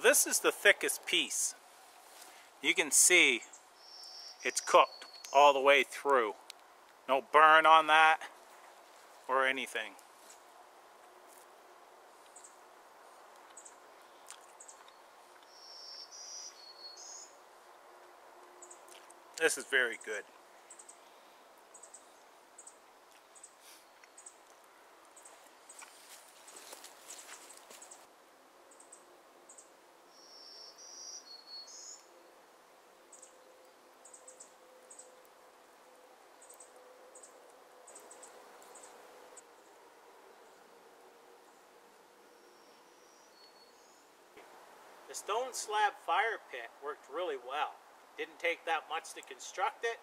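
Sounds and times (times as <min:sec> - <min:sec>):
songbird singing: 0:02.2 - 0:11.2, 0:12.1 - 0:28.1, 0:28.7 - 0:44.5.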